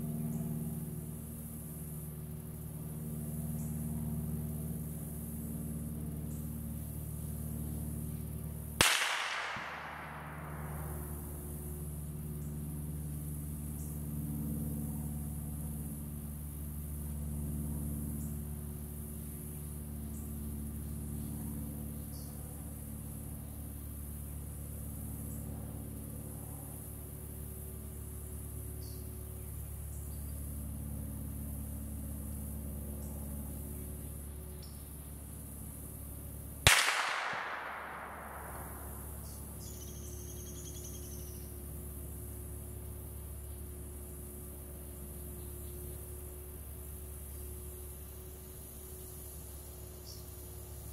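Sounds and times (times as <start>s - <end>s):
insects buzzing: 0.0s - 50.9s
low engine hum: 0.0s - 50.9s.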